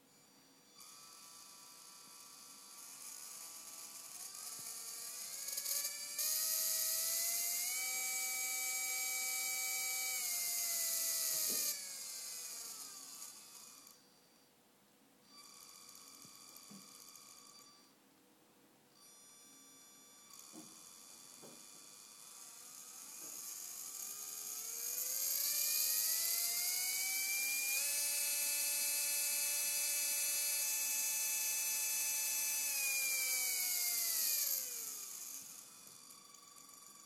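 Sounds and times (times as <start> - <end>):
electric motor whining: 0.1 - 14.1, 15.3 - 17.9, 19.0 - 37.0.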